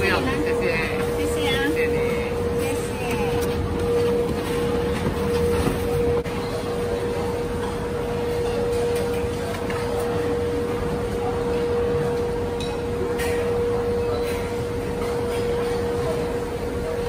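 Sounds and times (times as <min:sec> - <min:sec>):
mid-pitched hum: 0:00.0 - 0:14.9.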